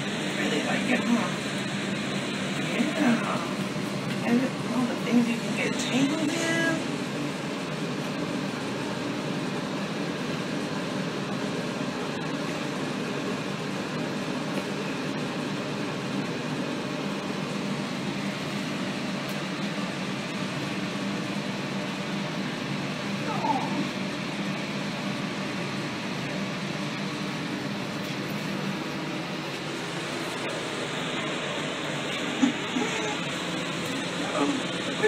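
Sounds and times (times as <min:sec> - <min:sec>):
mechanical hum: 0:00.0 - 0:35.0.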